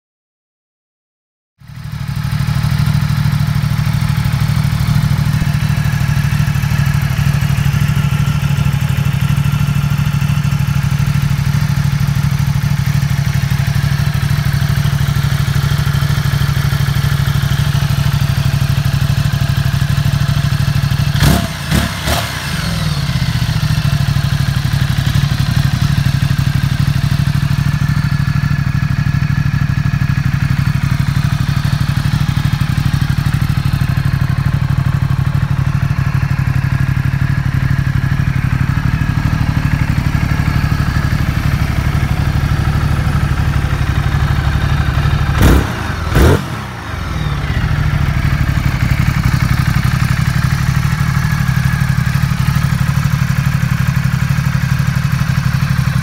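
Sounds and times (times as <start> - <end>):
motorcycle engine idling: 1.6 - 56.0.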